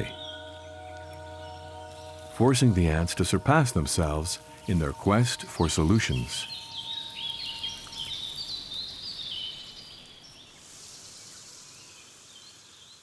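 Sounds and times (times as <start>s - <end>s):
faint high hiss: 0.0s - 13.0s
small birds chirping: 0.0s - 13.0s.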